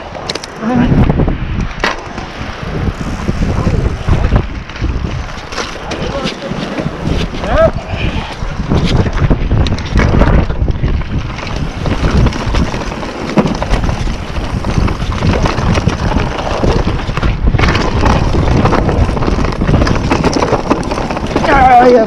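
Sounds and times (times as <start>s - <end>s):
tyres rumbling over dirt: 0.0s - 22.0s
wind buffeting microphone: 0.0s - 22.0s
bike knocks and rattles: 4.1s - 22.0s.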